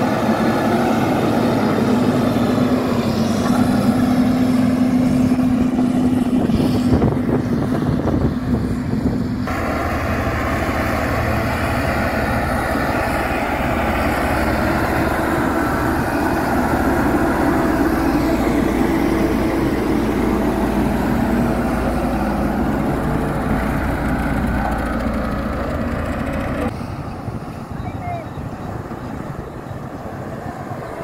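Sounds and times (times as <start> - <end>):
road roller diesel engine: 0.0 - 31.0.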